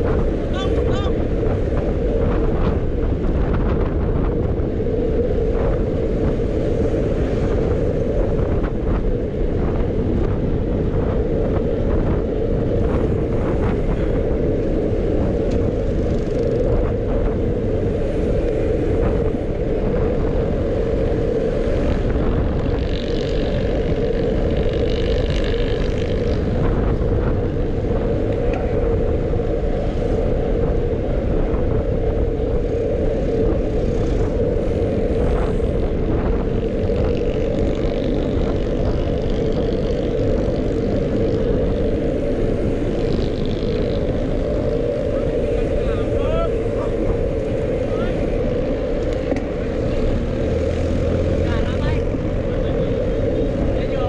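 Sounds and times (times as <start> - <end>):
constant hum: 0.0 - 54.0
wind and road rush: 0.0 - 54.0.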